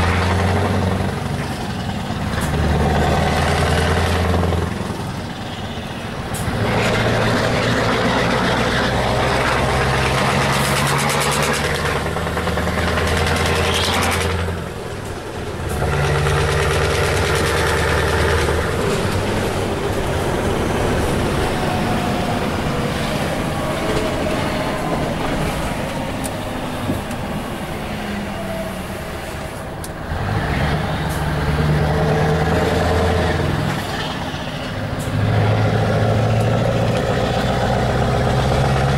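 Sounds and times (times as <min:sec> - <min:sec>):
truck engine pulling under load: 0:00.0 - 0:38.9.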